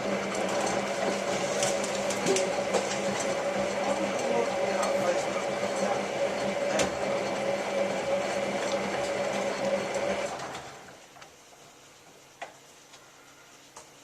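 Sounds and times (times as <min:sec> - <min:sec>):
washing machine motor whirring: 0:00.0 - 0:14.0.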